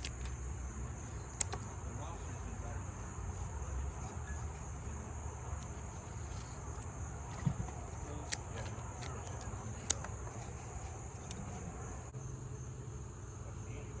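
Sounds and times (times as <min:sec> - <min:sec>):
sharp clicks: 0:00.0 - 0:02.5, 0:03.2 - 0:12.1
crickets chirping: 0:00.0 - 0:14.0.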